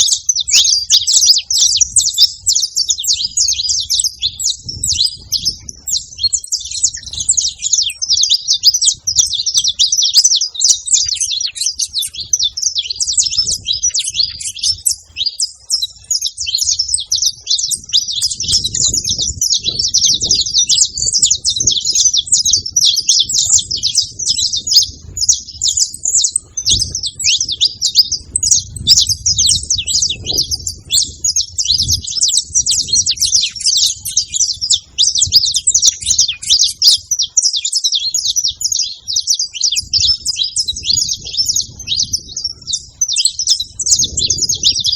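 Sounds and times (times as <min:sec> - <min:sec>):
finch chirping: 0:00.0 - 0:44.9.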